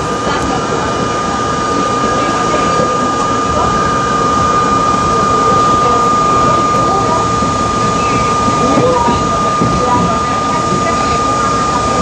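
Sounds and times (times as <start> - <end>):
high whine of train: 0.0 - 12.0
rumble of train wheels: 0.0 - 12.0.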